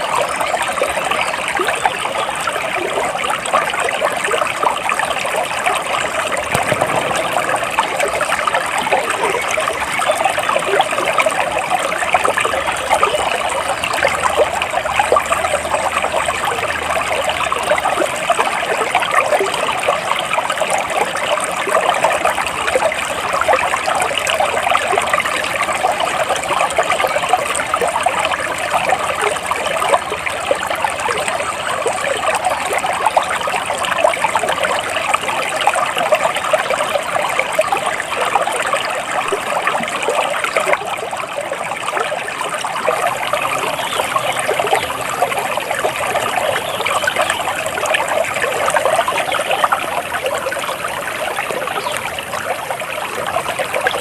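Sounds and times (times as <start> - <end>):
water flowing and trickling: 0.0 - 54.0.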